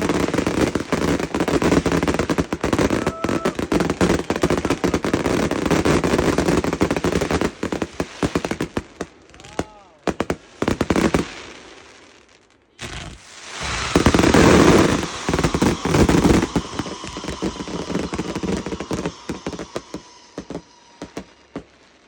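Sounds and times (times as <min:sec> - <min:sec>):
fireworks cracking and banging: 0:00.0 - 0:12.2, 0:12.8 - 0:22.0.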